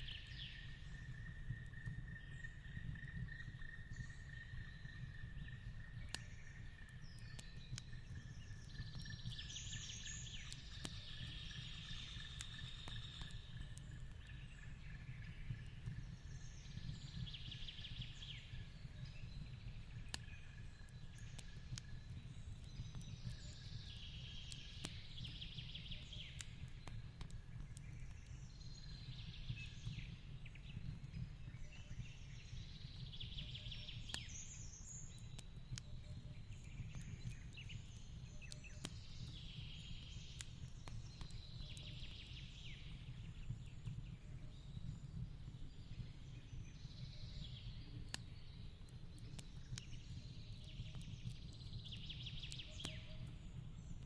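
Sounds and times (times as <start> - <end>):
fireplace crackling and popping: 0.1 - 54.0.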